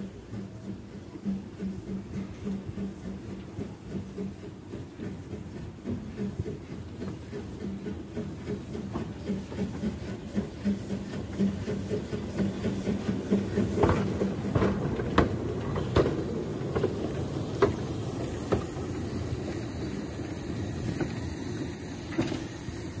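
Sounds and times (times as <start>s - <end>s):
steam locomotive chuffing: 0.0s - 23.0s
wheels clicking over rail joints: 0.0s - 23.0s
steam hiss: 1.4s - 23.0s.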